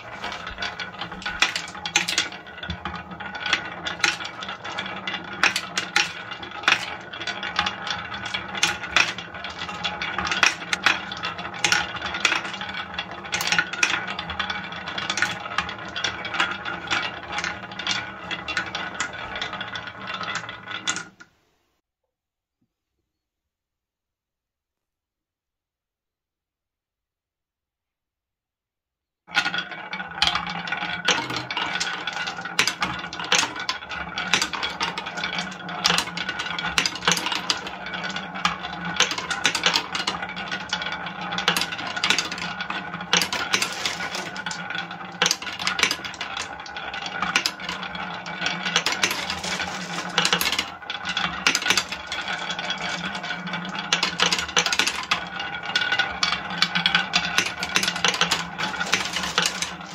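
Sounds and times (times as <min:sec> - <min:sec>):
balls dropping into wooden tray: 0:00.0 - 0:21.3, 0:29.3 - 0:59.9
balls rolling on wooden tracks: 0:00.0 - 0:21.3, 0:29.3 - 0:59.9.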